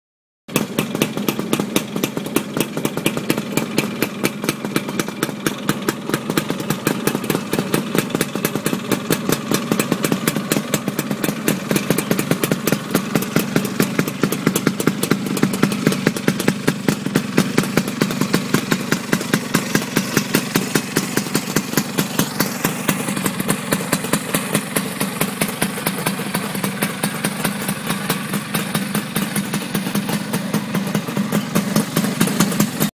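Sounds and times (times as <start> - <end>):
scooter two-stroke engine idling: 0.5 - 32.9.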